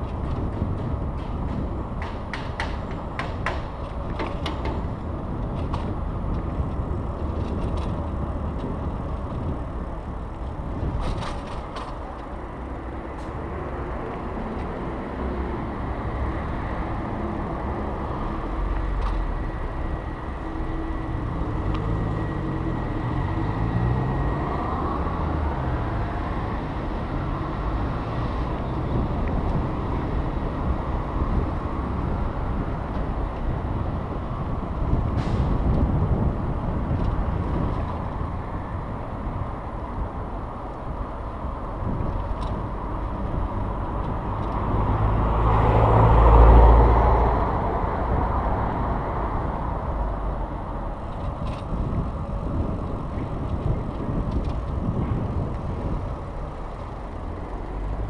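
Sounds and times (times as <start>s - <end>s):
motor vehicle engine: 0.0s - 58.0s
wind and road rumble: 0.0s - 58.0s.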